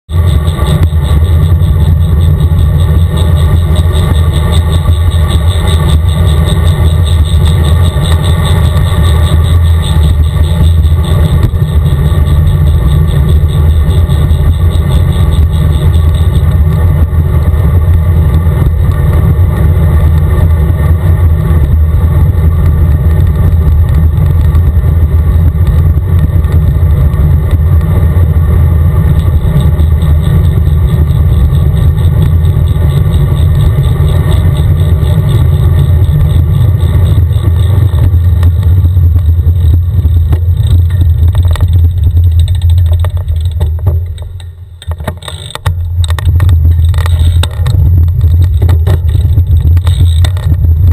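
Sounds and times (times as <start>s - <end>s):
highway traffic: 0.1s - 50.9s
wind rumble on microphone: 0.1s - 50.9s.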